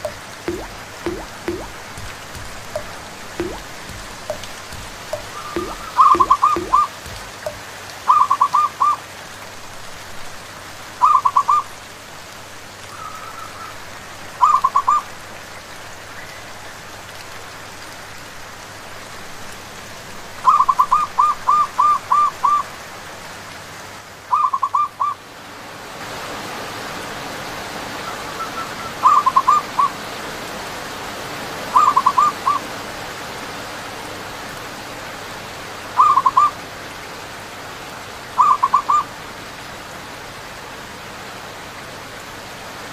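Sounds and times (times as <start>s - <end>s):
rain hiss: 0.0s - 42.9s.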